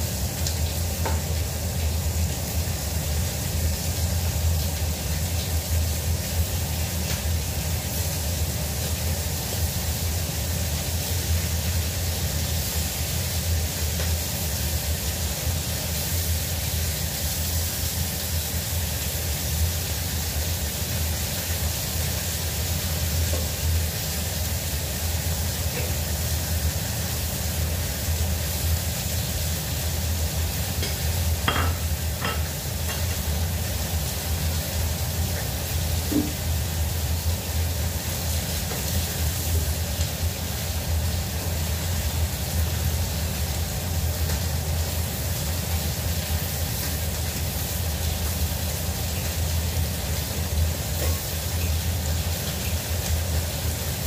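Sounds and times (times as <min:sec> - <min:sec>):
food sizzling in a wok: 0:00.0 - 0:54.0
gas burner low rush: 0:00.0 - 0:54.0.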